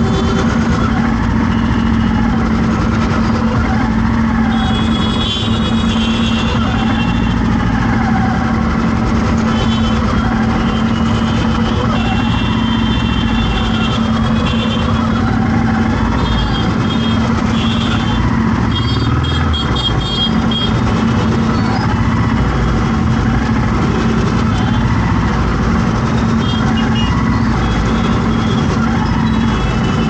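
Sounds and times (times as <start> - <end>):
road traffic engines running: 0.0 - 30.0.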